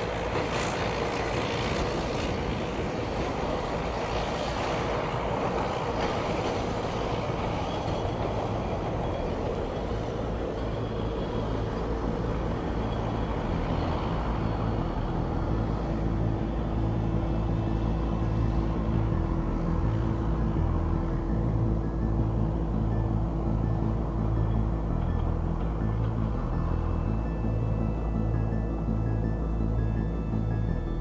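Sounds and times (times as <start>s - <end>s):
rail bus engine drone: 0.0s - 31.0s
steady hum: 0.0s - 31.0s.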